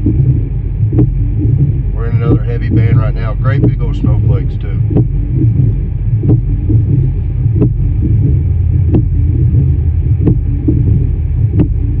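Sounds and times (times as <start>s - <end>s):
vehicle rumble from inside: 0.0s - 12.0s
windshield wiper strokes: 0.0s - 12.0s.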